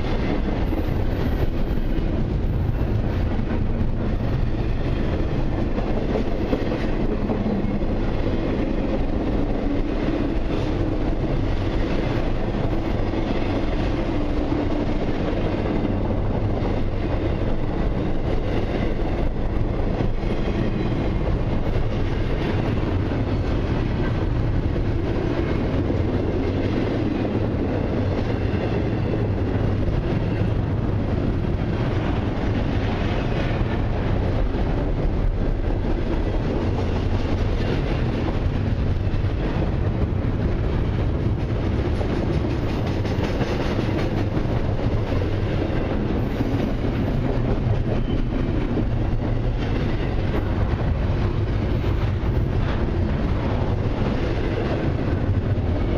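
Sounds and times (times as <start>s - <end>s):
freight train wheels on rails: 0.0s - 55.9s.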